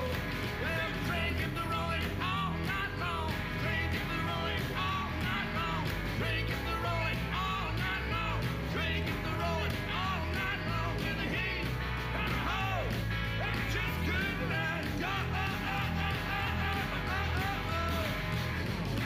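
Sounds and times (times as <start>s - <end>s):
man singing: 0.0s - 18.4s
electric guitar: 0.0s - 19.0s
upright bass: 0.0s - 19.0s.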